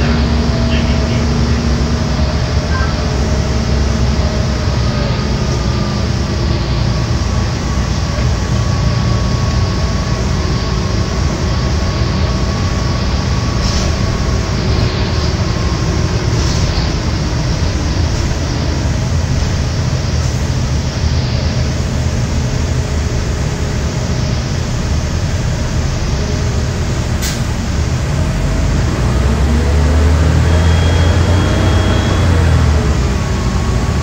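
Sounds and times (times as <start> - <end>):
faint whine: 0.0 - 34.0
road rumble inside vehicle: 0.0 - 34.0.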